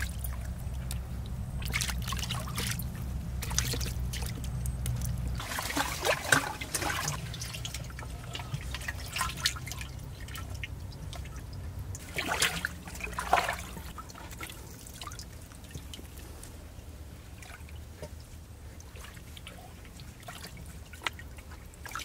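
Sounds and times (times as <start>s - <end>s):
muddy water splashing: 0.0s - 22.0s
water drips and trickles: 0.0s - 22.0s.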